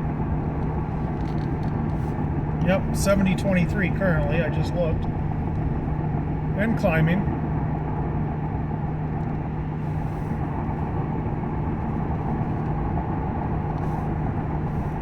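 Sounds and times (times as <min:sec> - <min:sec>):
car engine humming: 0:00.0 - 0:15.0
road and tyre rumble: 0:00.0 - 0:15.0.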